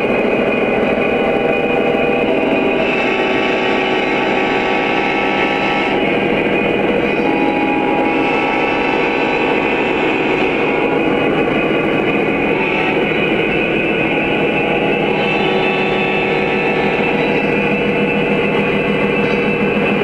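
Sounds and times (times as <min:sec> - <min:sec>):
model diesel locomotive engine drone: 0:00.0 - 0:20.0.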